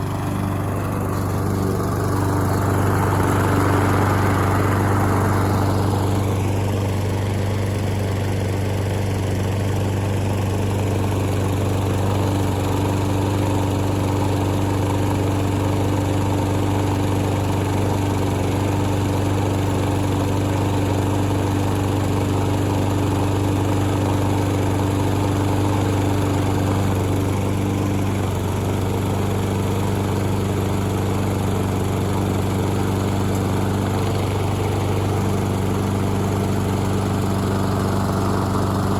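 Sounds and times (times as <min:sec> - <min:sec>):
push lawn mower running: 0:00.0 - 0:38.9.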